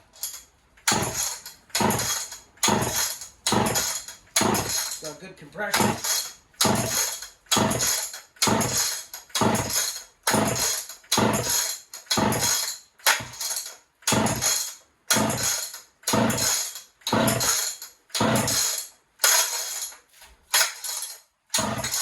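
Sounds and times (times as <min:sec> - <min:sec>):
chainsaw engine turning over: 0:00.2 - 0:19.9, 0:20.5 - 0:22.0
chainsaw starter rope rasping: 0:00.2 - 0:22.0.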